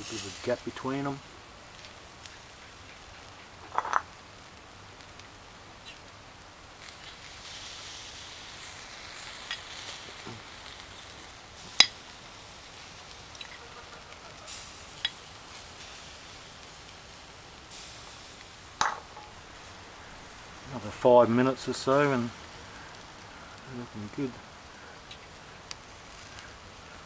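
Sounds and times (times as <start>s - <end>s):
meat sizzling on a grill: 0.0s - 27.0s
charcoal pops and crackles: 1.7s - 20.4s, 21.5s - 27.0s.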